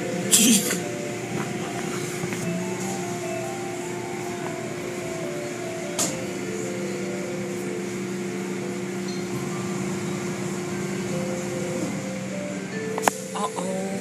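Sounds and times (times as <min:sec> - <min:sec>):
wash machinery humming: 0:00.0 - 0:14.0.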